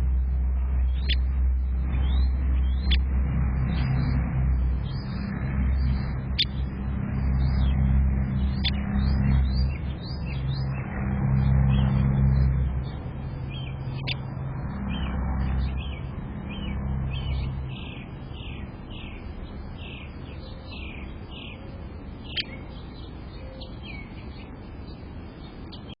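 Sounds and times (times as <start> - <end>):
low rumble: 0.0 - 23.3
birds chirping: 0.0 - 26.0.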